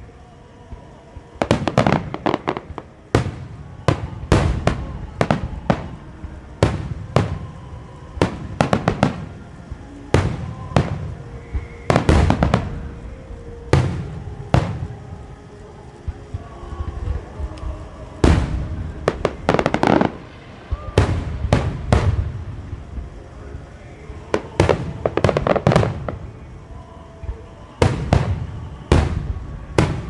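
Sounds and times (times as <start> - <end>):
fireworks bursting with echoes: 0.0 - 30.0.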